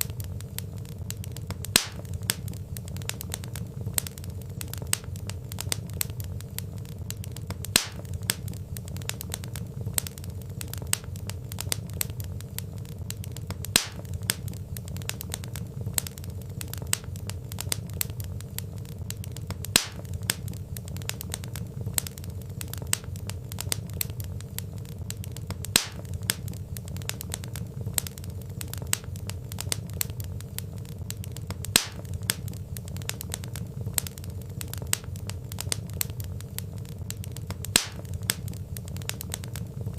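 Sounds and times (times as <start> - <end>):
sharp fire pop: 0.0 - 6.3, 7.0 - 12.3, 13.1 - 18.3, 19.1 - 24.3, 25.0 - 30.3, 31.0 - 36.3, 37.1 - 39.6
wood fire crackling: 0.0 - 39.9.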